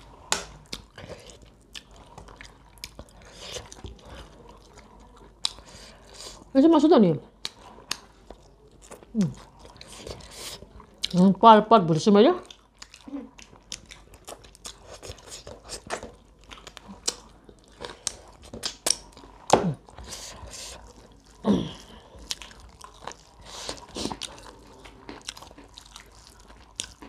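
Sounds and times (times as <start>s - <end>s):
chewing and crunching: 0.0s - 6.5s, 7.2s - 11.2s, 12.4s - 27.0s.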